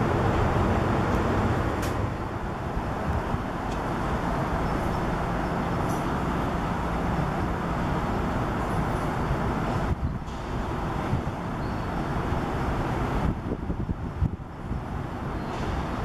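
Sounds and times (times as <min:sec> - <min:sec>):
rushing noise with deep rumble: 0:00.0 - 0:16.0.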